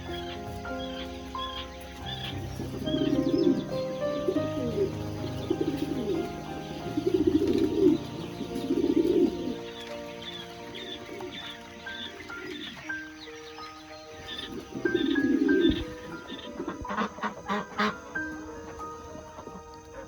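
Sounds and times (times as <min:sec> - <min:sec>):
background music: 0:00.0 - 0:20.0
chickens trilling: 0:00.0 - 0:20.0
high peeping: 0:00.0 - 0:20.0.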